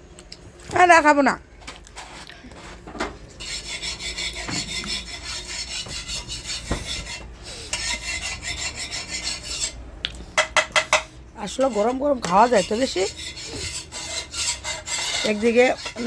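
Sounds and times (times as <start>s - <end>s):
utensils rasping and scraping: 2.0s - 16.0s.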